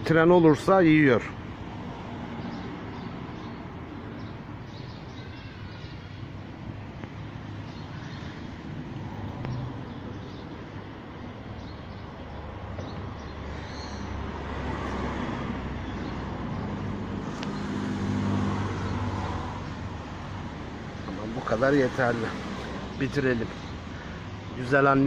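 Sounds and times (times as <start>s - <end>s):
low rumble of traffic or engine: 0.0s - 25.0s.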